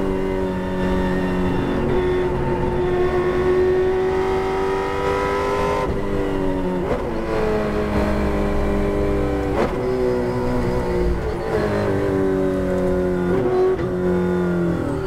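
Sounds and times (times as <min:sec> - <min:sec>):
race car engine at high revs: 0:00.0 - 0:15.0.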